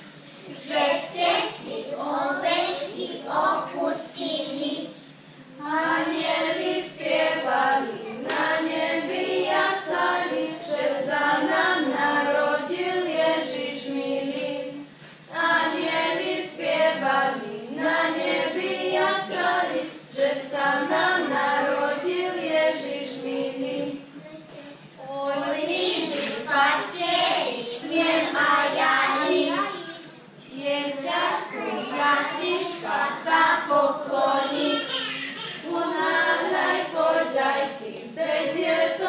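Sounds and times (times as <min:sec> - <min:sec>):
children's choir singing: 0:00.0 - 0:05.0, 0:05.6 - 0:24.1, 0:25.0 - 0:39.0.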